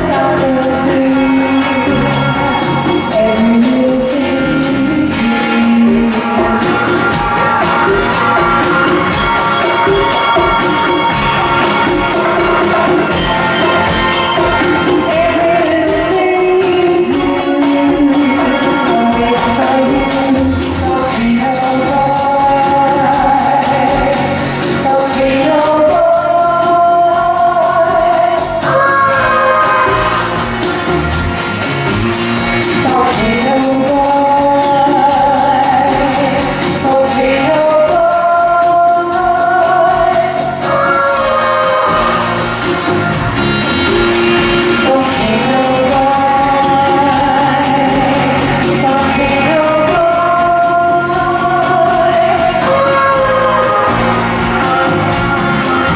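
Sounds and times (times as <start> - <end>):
live band playing: 0.0 - 55.9.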